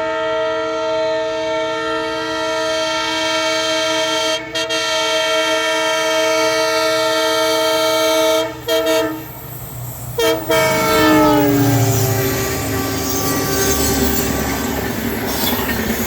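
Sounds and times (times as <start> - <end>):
diesel locomotive horn blasts: 0.0 - 15.5
low rumble of train: 0.0 - 16.0.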